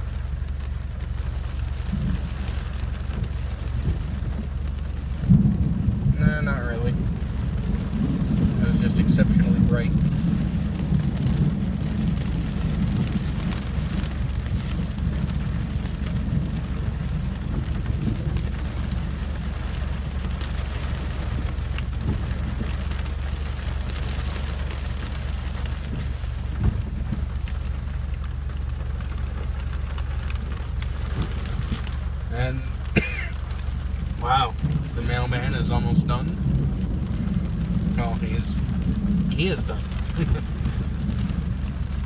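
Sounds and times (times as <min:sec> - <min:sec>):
low rumble: 0:00.0 - 0:42.0
rain falling on a car: 0:00.0 - 0:42.0
raindrop taps: 0:00.0 - 0:42.0.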